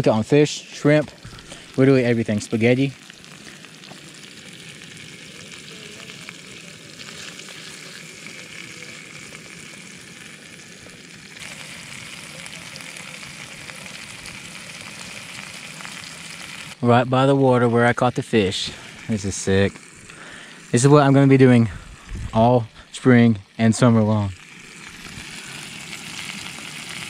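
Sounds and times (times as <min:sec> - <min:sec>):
fish sizzling in butter: 0:00.0 - 0:27.0.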